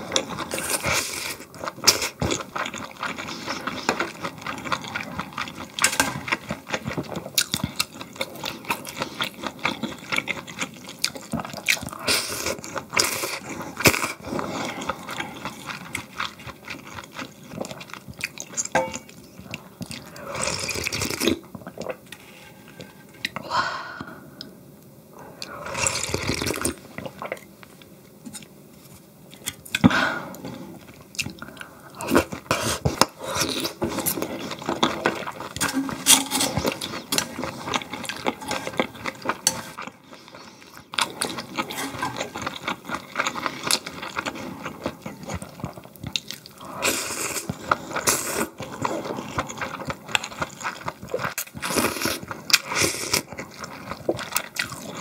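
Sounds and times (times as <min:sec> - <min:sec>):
person chewing food: 0:00.0 - 0:24.5, 0:25.2 - 0:55.0.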